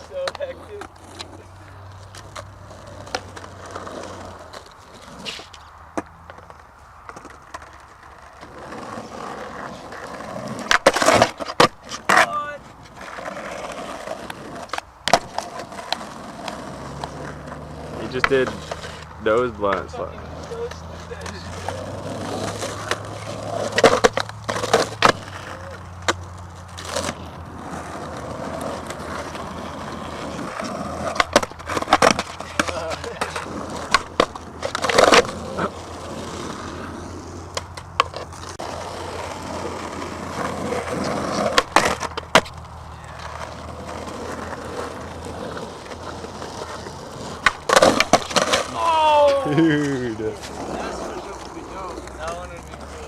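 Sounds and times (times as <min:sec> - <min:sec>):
skateboard clacking on concrete: 0:00.0 - 0:53.0
skateboard wheels rolling on concrete: 0:00.0 - 0:53.0.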